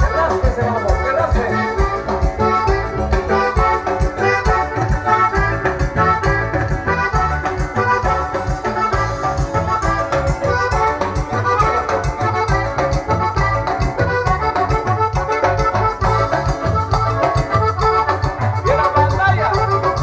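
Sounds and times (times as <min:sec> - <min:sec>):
keyboard organ-like melody: 0:00.0 - 0:20.0
pulsing bass beat: 0:00.0 - 0:20.0.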